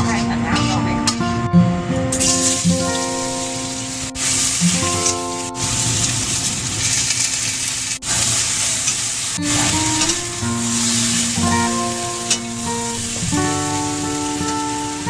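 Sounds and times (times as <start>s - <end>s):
background music with held notes: 0.0s - 15.0s
food sizzling in a pan: 2.2s - 15.0s.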